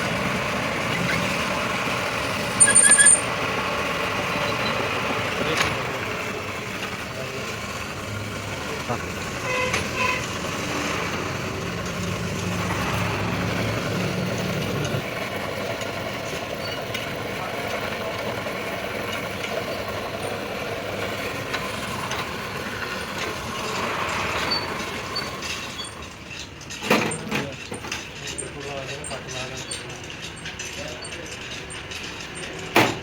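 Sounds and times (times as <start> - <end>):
workshop machinery running: 0.0 - 33.0.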